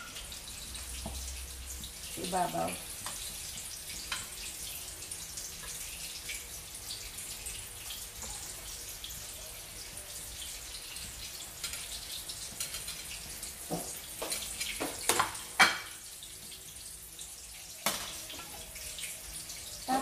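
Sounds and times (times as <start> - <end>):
omelet sizzling in hot oil: 0.0 - 20.0.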